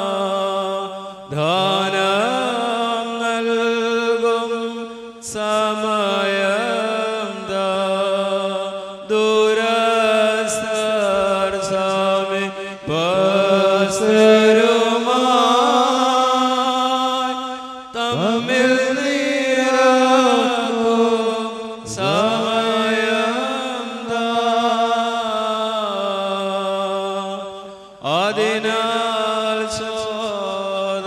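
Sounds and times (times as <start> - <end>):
congregation chanting in unison: 0.0 - 31.0.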